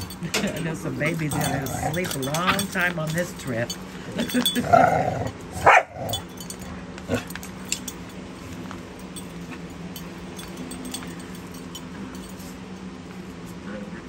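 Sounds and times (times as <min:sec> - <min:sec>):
light clicks and clinks: 0:00.0 - 0:13.6
steady low hum: 0:00.0 - 0:14.0.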